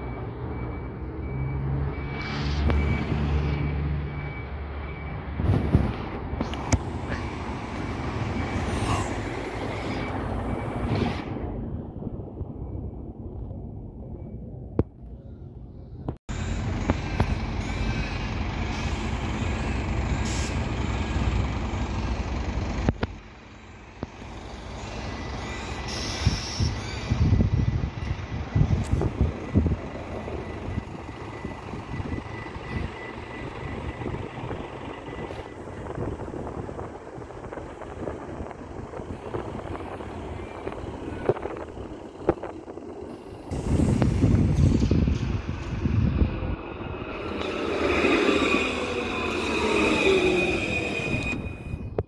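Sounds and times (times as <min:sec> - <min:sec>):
vehicle engine rumble: 0:00.0 - 0:52.0.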